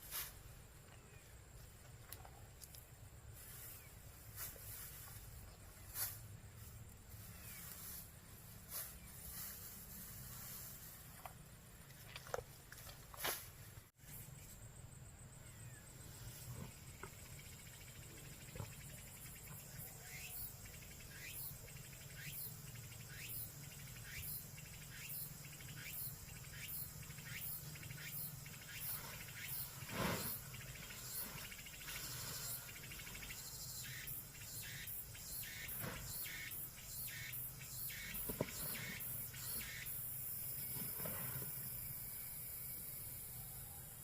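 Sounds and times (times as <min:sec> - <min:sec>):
insects chirping: 0:00.0 - 0:44.0.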